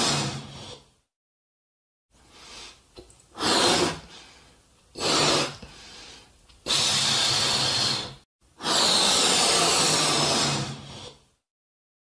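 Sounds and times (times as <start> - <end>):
balloon inflated by mouth: 0.0 - 1.0, 2.2 - 11.4.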